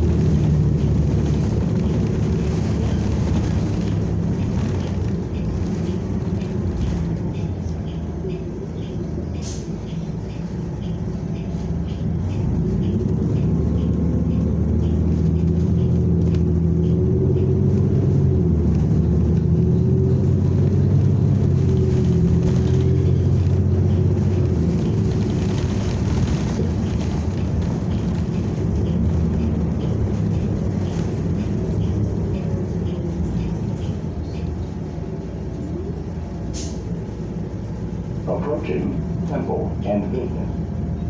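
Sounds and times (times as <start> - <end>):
bus engine accelerating: 0.0 - 41.0.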